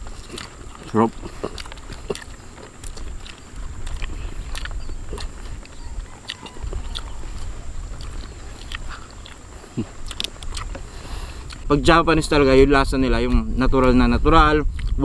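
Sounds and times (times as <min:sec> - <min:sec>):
people chewing: 0:00.0 - 0:11.8, 0:14.6 - 0:15.0.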